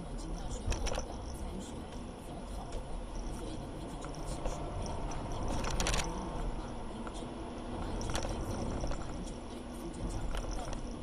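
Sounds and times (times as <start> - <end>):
car road rumble and hiss: 0.0 - 11.0
scraping rattle: 0.2 - 2.0, 2.6 - 11.0.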